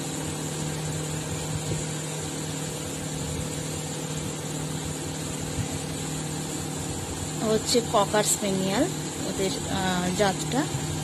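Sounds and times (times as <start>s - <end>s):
electric machine humming: 0.0s - 11.0s.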